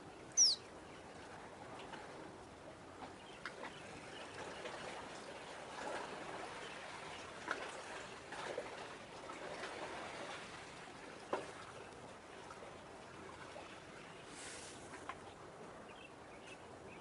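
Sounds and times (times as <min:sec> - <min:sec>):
harbour water washing: 0:00.0 - 0:16.9.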